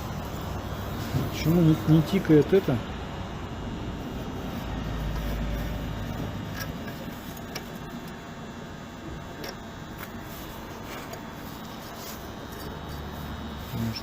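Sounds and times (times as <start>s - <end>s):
heater blower fan whirring: 0.0s - 14.0s.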